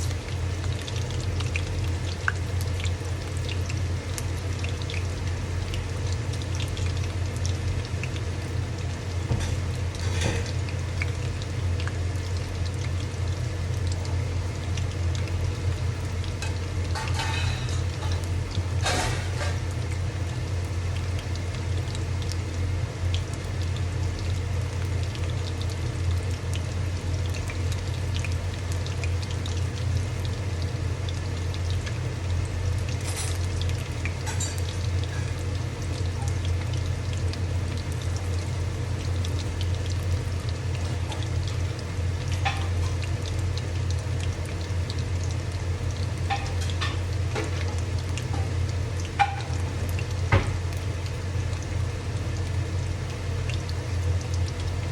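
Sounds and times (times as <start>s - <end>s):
food sizzling in hot oil: 0.0s - 54.9s.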